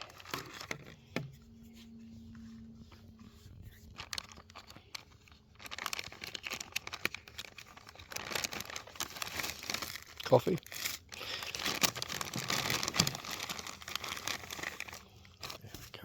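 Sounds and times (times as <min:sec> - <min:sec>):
wrapping rustling and crinkling: 0:00.0 - 0:16.0.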